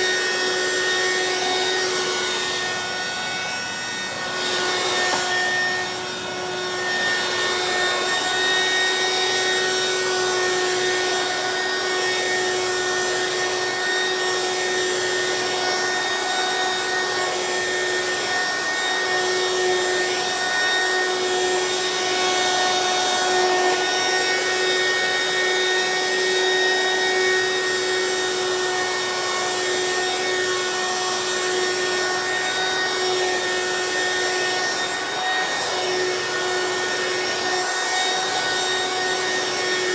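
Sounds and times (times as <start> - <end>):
stick vacuum motor whine: 0.0 - 39.9
vacuum nozzle rubbing on rug: 0.0 - 39.9.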